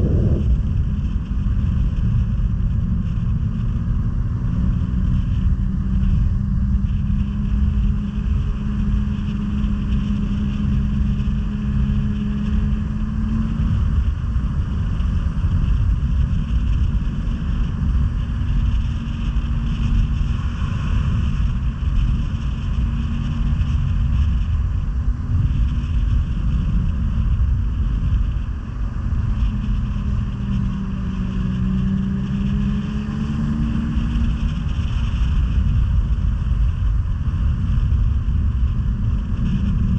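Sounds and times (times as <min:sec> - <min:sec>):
snowmobile engine running: 0:00.0 - 0:39.9
track and wind rush: 0:00.0 - 0:39.9.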